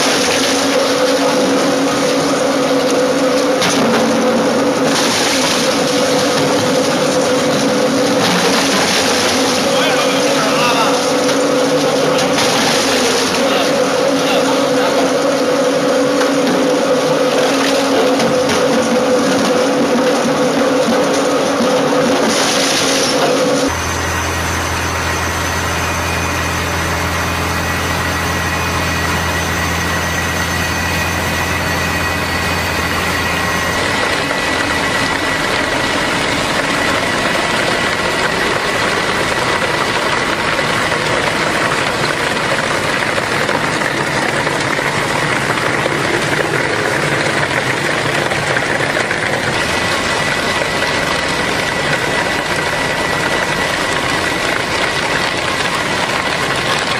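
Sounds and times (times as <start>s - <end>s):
crusher motor hum: 0.0s - 56.9s
grinding noise with whine: 0.0s - 56.9s.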